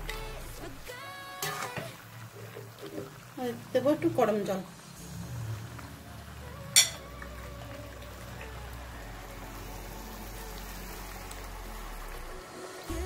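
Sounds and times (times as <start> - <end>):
curry sizzling in a pan: 0.0 - 13.0
water pouring: 0.0 - 13.0.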